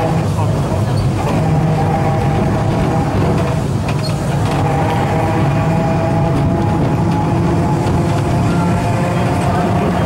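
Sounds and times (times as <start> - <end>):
tram motor whine: 0.0 - 10.0
tram rumbling: 0.0 - 10.0.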